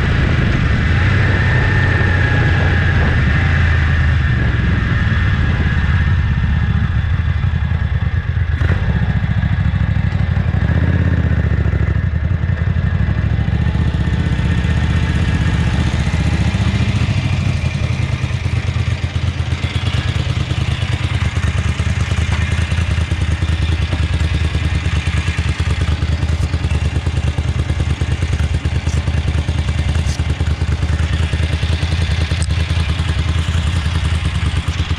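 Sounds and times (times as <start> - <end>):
motorcycle engine: 0.0 - 34.9
motorcycle idling: 0.0 - 34.9.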